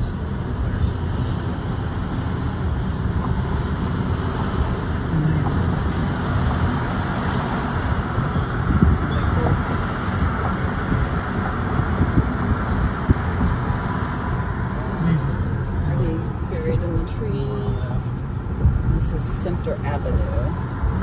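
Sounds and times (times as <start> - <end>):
car tyres and engine rumble: 0.0 - 21.0.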